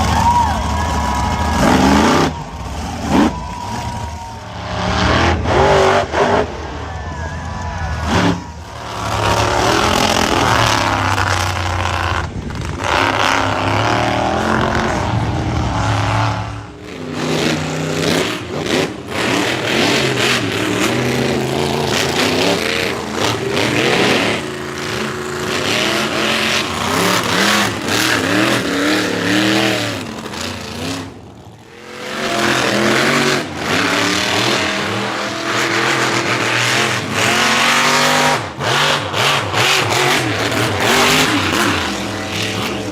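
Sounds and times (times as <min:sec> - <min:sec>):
truck engines revving hard: 0:00.0 - 0:42.9.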